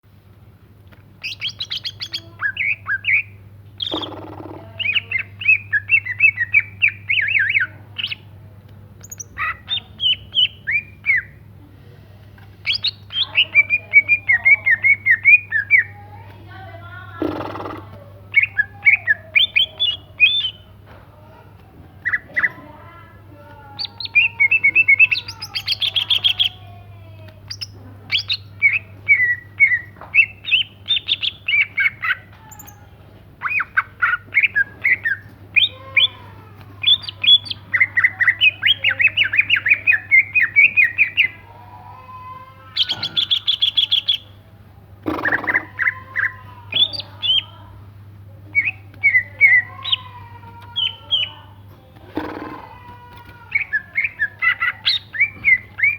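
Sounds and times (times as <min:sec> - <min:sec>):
bird singing rapid chirps and trills: 0:01.2 - 0:08.3, 0:09.0 - 0:11.4, 0:12.6 - 0:20.8, 0:22.0 - 0:26.8, 0:27.4 - 0:41.5, 0:42.2 - 0:44.4, 0:45.1 - 0:47.8, 0:48.4 - 0:55.9.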